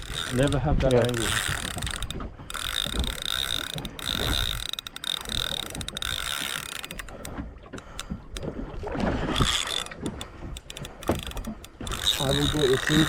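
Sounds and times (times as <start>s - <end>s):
fishing reel clicks: 0.0s - 8.4s, 9.3s - 13.0s
fishing reel whirring: 0.0s - 8.4s, 9.3s - 13.0s.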